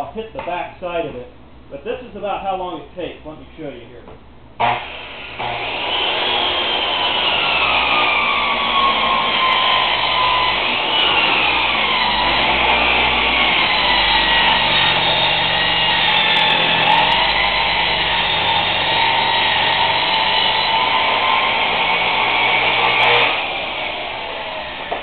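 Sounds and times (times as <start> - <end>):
circular saw cutting plywood: 4.6 - 25.0.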